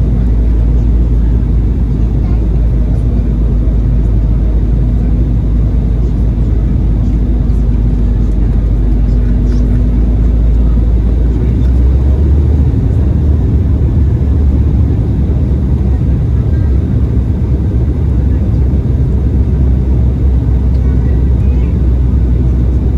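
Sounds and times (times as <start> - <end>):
airliner cabin engine rumble: 0.0 - 22.9.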